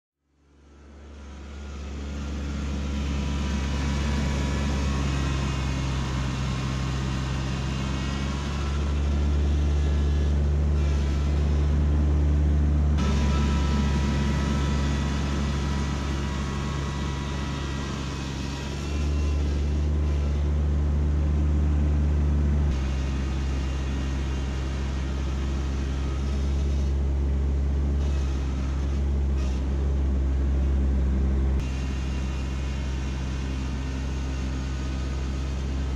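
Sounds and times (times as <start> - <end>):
tractor diesel engine running: 0.4 - 35.9.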